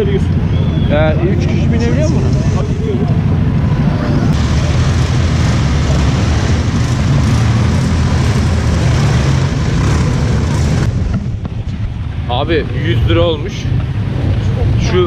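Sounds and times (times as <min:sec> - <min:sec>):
quad bike engines running: 0:00.0 - 0:15.0.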